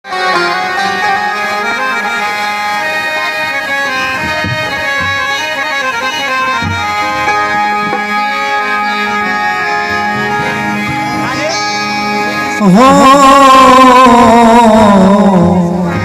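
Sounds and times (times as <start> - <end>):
free-reed instrument melody: 0.0 - 16.0.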